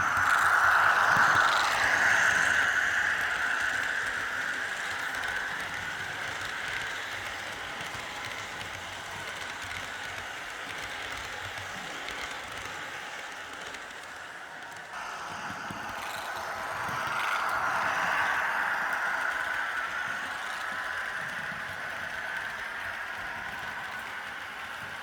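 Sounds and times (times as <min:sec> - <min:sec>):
model train wheels clattering on rails: 0:00.0 - 0:25.0.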